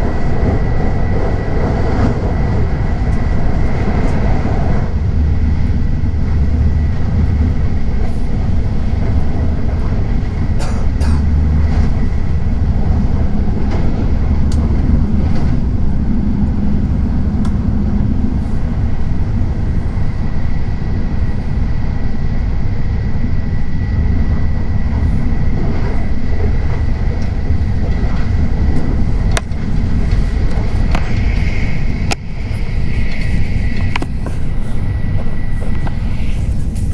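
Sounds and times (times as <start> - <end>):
high steady whine: 0.0 - 36.9
train rumbling: 0.0 - 36.9.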